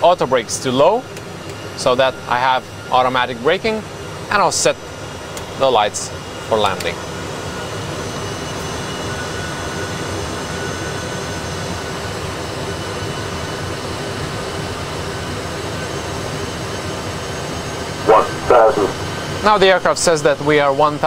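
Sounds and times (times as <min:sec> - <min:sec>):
cockpit airflow and engine noise: 0:00.0 - 0:21.0.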